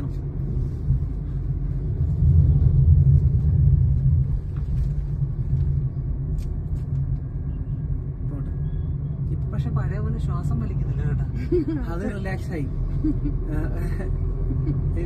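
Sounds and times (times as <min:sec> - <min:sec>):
car interior road and engine rumble: 0:00.0 - 0:15.0.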